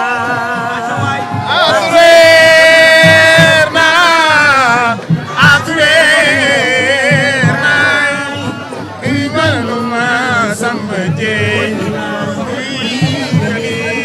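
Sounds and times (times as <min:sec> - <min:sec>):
low drum beat: 0:00.0 - 0:14.0.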